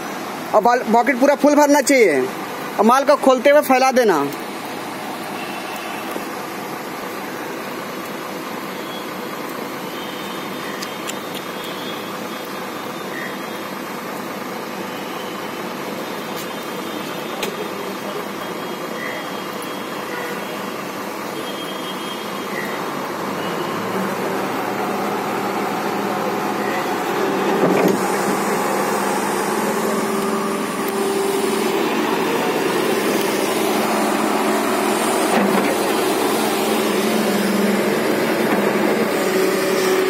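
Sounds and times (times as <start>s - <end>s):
diesel engine idling: 6.2s - 40.0s.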